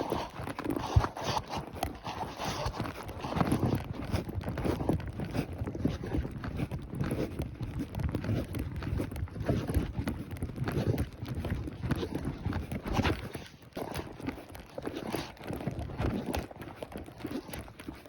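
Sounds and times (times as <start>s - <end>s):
horse hoofbeats: 0.0s - 18.0s.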